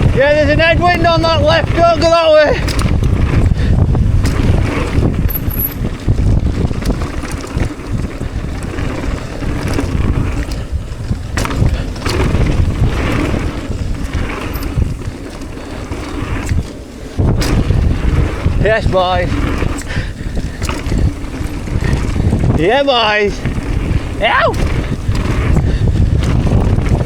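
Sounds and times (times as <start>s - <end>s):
bike tyres hissing on dirt: 0.0s - 27.0s
wind buffeting microphone: 0.0s - 27.0s
bike knocking over bumps: 2.5s - 27.0s.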